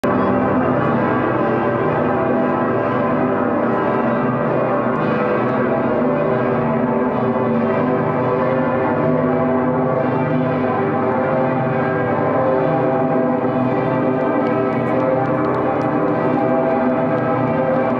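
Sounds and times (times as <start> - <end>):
large bell ringing: 0.0 - 17.9.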